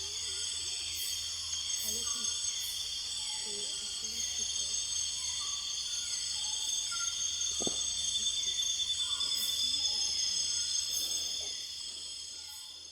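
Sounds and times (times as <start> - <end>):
insects trilling: 0.0 - 12.9.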